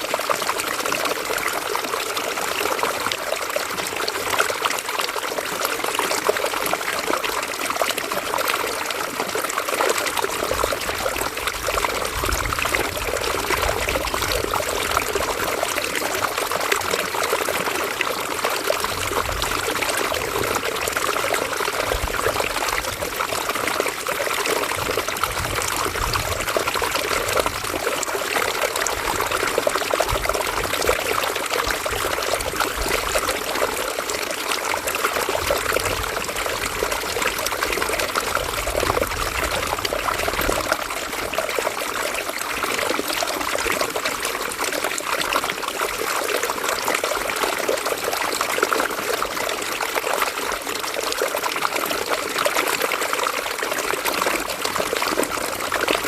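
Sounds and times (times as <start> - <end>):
river water running over stones: 0.0 - 56.0.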